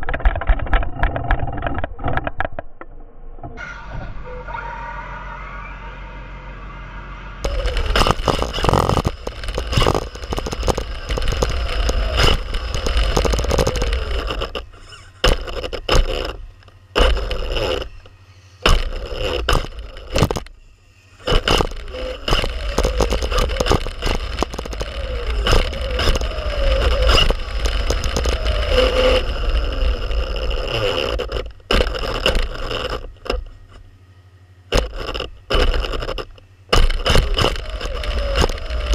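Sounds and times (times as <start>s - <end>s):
tyres and chassis rattling: 0.0s - 38.9s
faint motor whine: 0.1s - 38.9s.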